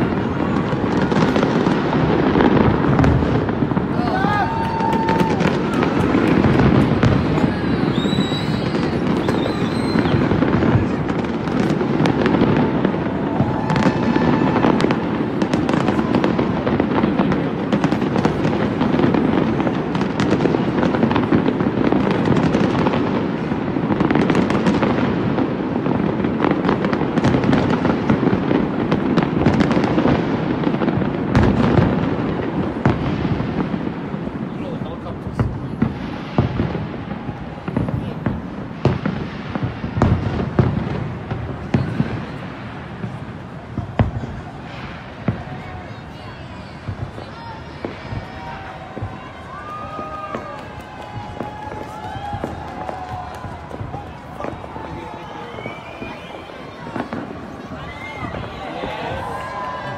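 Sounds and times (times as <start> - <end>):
distant fireworks bursting and crackling: 0.0 - 59.9.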